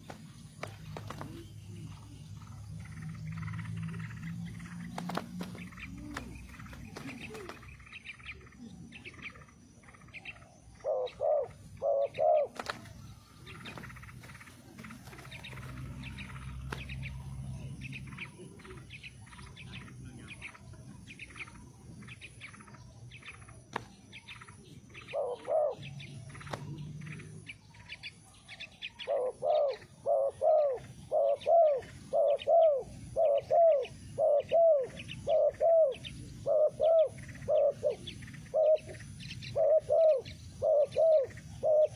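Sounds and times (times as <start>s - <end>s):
dove cooing: 0.0s - 41.9s
small birds chirping: 0.0s - 41.9s.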